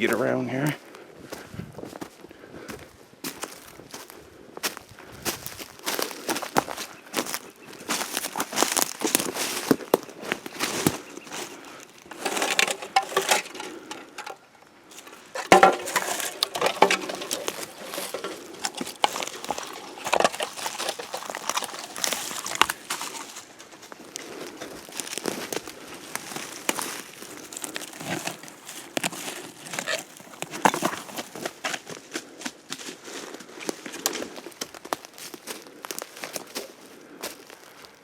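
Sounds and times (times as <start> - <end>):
footsteps through dry brush: 0.0 - 38.0
leaves crunching: 3.2 - 32.0, 32.8 - 38.0
twigs cracking: 3.2 - 38.0.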